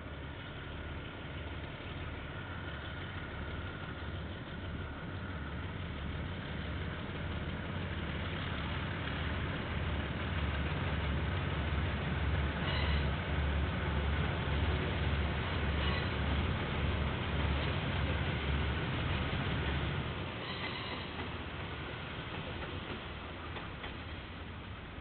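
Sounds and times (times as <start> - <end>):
diesel locomotive rumble: 0.0 - 25.0.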